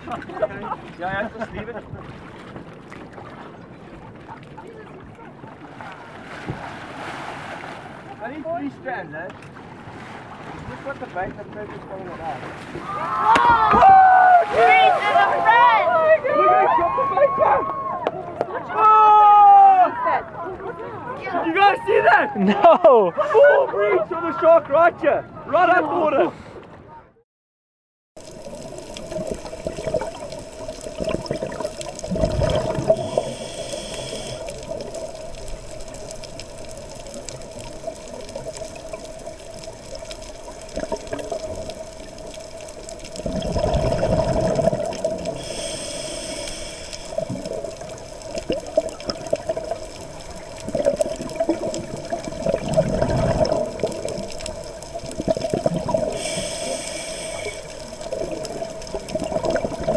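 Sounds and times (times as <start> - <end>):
water sloshing and gurgling: 0.0 - 16.3, 28.2 - 59.9.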